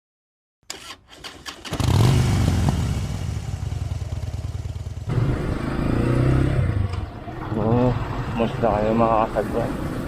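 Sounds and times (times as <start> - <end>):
vehicle engine starting and running: 0.6 - 10.0.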